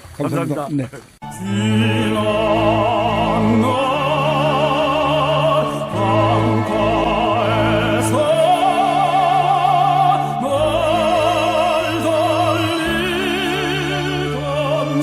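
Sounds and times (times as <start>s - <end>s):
operatic singing with vibrato: 1.2s - 15.0s
orchestral accompaniment: 1.2s - 15.0s.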